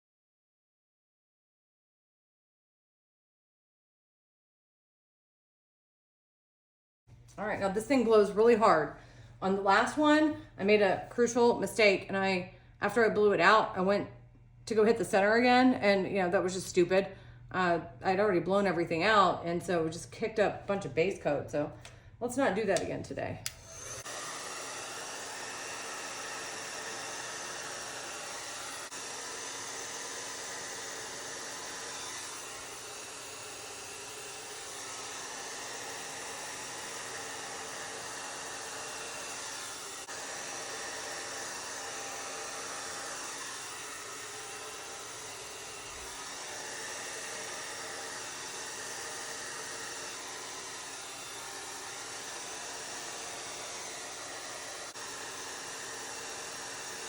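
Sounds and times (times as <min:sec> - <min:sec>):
hair dryer running: 0:07.3 - 0:13.9, 0:17.8 - 0:57.0.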